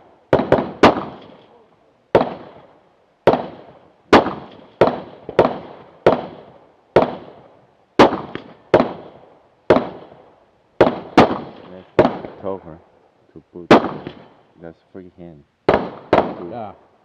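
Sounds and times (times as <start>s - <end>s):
rifle shots echoing: 0.0s - 12.6s, 13.6s - 14.5s, 15.7s - 16.8s
fainter gunshot bangs: 0.3s - 12.6s, 13.6s - 14.4s, 15.7s - 16.7s.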